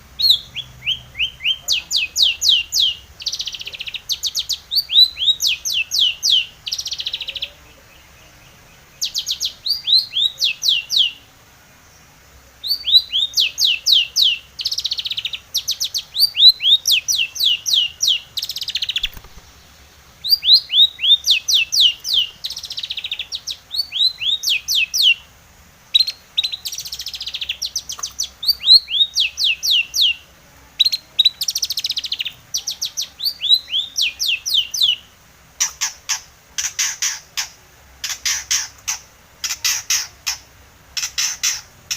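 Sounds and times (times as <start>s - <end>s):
shrike singing: 0.0s - 12.0s, 12.6s - 25.3s, 25.9s - 35.1s.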